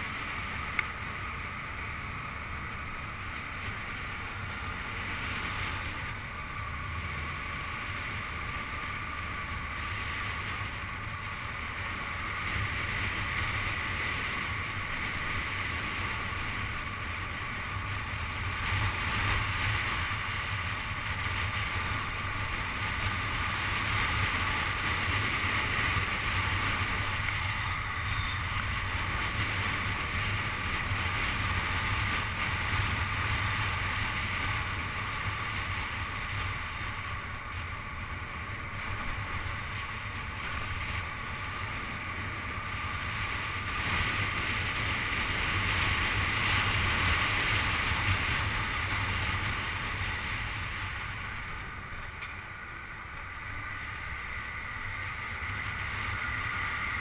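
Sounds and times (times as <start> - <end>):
tyre and road noise: 0.0 - 57.0
wind hiss: 0.0 - 57.0.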